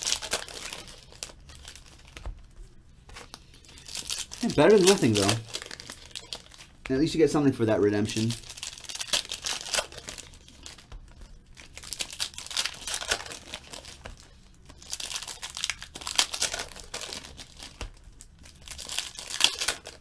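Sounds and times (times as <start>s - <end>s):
foil wrappers crinkling: 0.0s - 2.3s, 3.1s - 20.0s
cards rustling: 0.0s - 20.0s.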